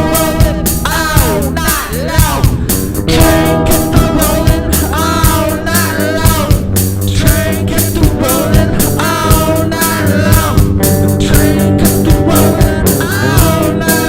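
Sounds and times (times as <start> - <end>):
rock band music: 0.0 - 14.0.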